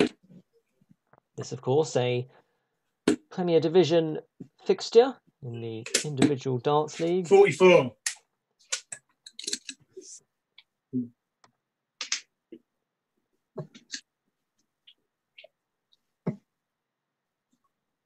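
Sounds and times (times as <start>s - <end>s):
faint room noise: 0.0s - 18.0s.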